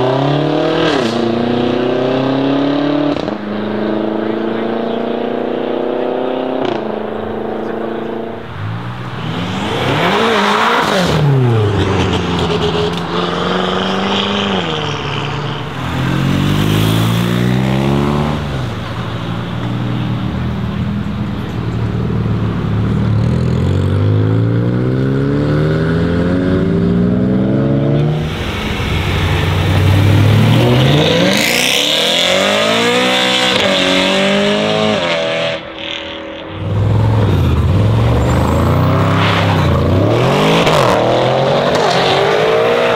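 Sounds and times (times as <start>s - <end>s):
cars accelerating past: 0.0s - 42.9s.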